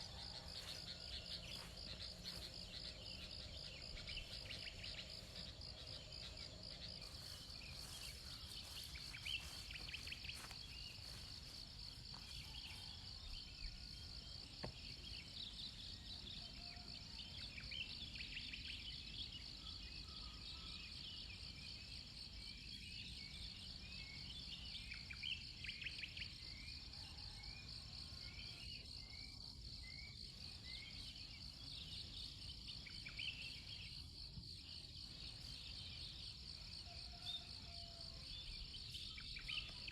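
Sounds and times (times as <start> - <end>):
insect chorus with pulsing trill: 0.0 - 39.9.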